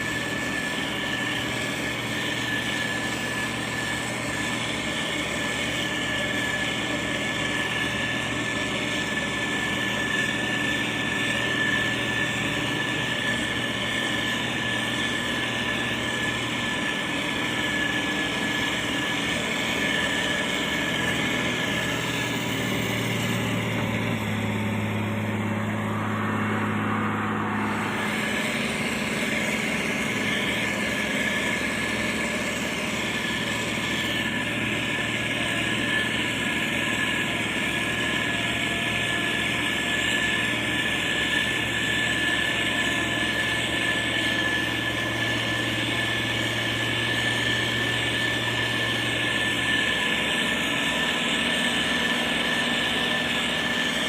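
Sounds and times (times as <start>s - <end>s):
heavy diesel machinery running: 0.0s - 54.0s
steady whine: 0.0s - 54.0s.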